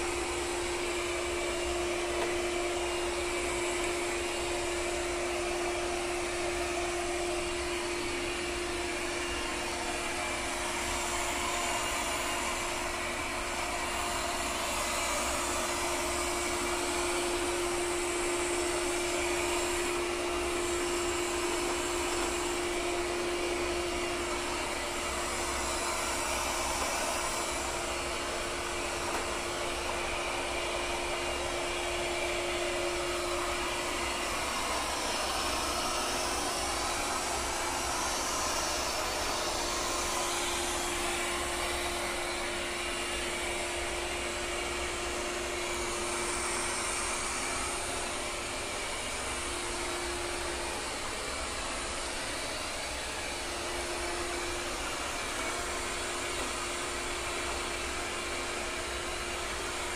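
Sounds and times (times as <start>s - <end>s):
robot vacuum whirring: 0.0s - 59.9s.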